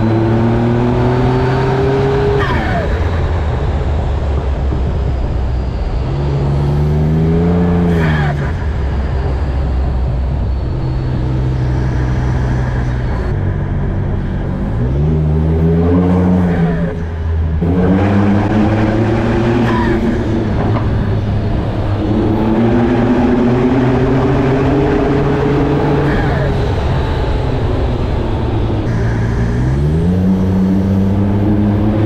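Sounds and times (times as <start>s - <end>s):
van engine accelerating: 0.0s - 32.0s.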